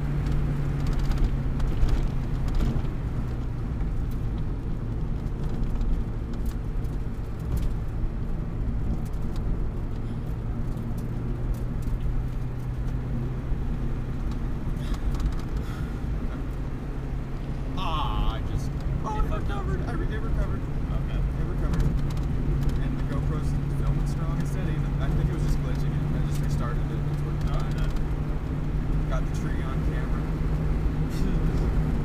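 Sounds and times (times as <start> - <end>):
car engine hum: 0.0 - 32.0
road noise: 0.0 - 32.0.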